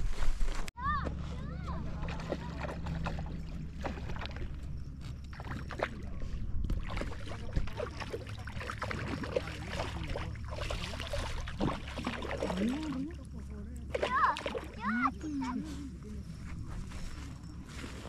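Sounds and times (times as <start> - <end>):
low motor hum: 0.8 - 18.0
water sounds: 1.5 - 18.0.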